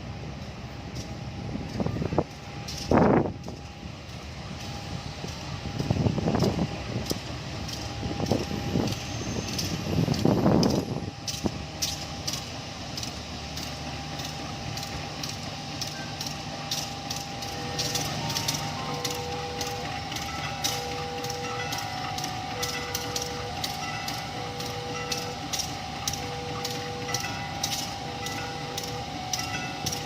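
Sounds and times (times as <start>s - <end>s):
train rumbling over rails: 0.0s - 30.0s.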